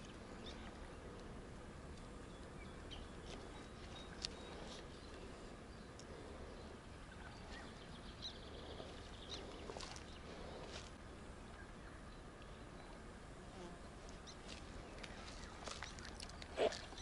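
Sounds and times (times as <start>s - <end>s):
low outdoor background: 0.0s - 17.0s.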